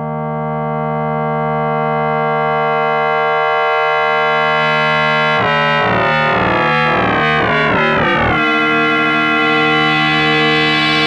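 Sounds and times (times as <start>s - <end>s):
synthesizer sine tone drone: 1.7s - 11.0s.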